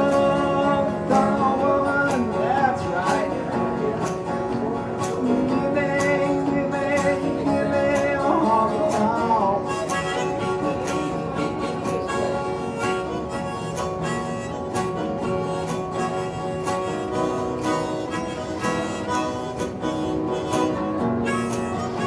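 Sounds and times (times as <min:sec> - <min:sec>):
live country music: 0:00.0 - 0:22.0.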